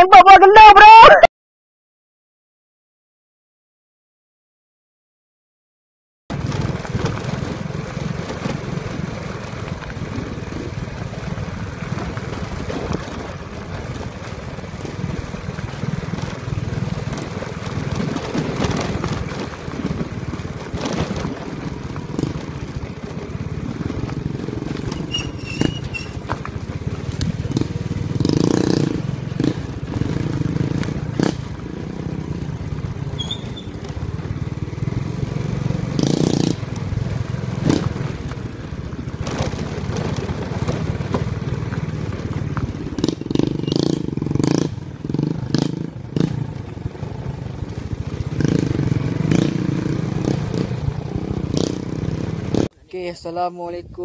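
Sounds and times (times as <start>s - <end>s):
knocks and rattles from riding: 6.3s - 52.7s
small motorcycle engine running: 6.3s - 52.7s.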